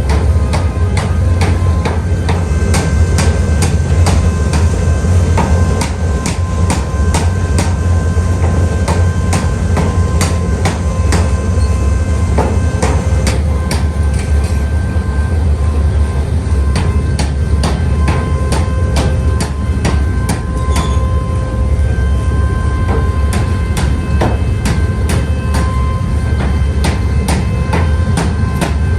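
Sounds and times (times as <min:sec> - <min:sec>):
hammer striking metal: 0:00.0 - 0:07.8, 0:08.4 - 0:11.8, 0:12.4 - 0:14.6, 0:16.7 - 0:21.2, 0:22.8 - 0:28.9
shop machinery humming: 0:00.0 - 0:28.9.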